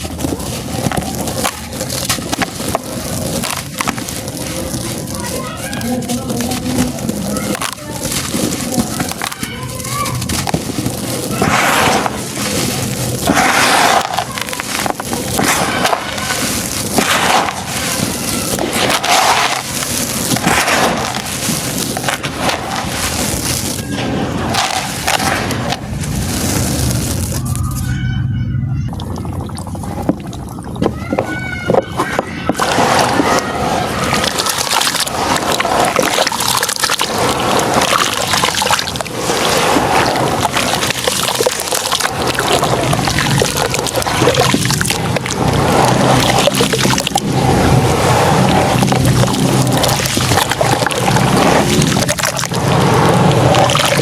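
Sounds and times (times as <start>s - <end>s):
wet crunching and sloshing: 0.0s - 27.8s, 28.9s - 54.0s
dry cement shapes crumbling: 0.0s - 28.0s, 28.8s - 54.0s.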